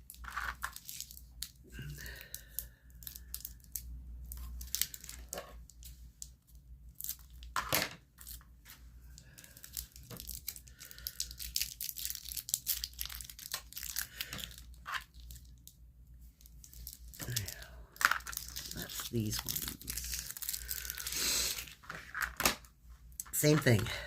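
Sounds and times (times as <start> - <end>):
modelling clay crinkling and tearing: 0.0 - 23.9.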